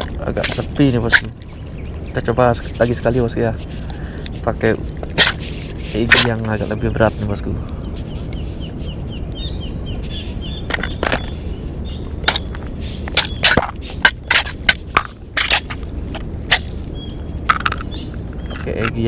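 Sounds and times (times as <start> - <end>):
low background rush: 0.0 - 19.0.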